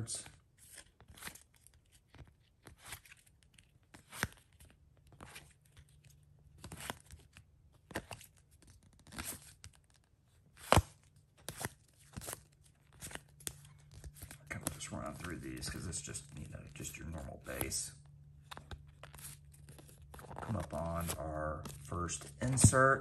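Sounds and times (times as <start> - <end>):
trading cards flipped by hand: 0.6 - 23.0.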